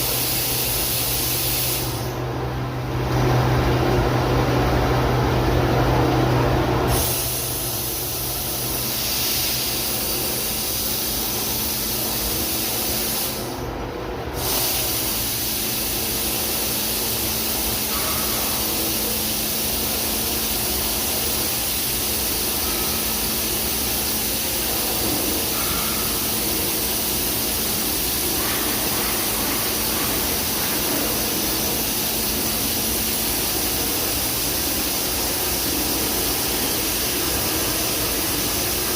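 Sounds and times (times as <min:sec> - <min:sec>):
low machine hum: 0:00.0 - 0:14.4, 0:15.0 - 0:38.9.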